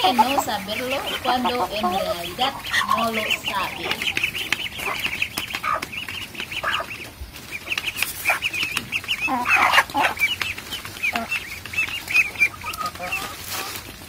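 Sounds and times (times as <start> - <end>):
ducklings peeping: 0.0 - 14.0
hen clucking: 0.0 - 14.0.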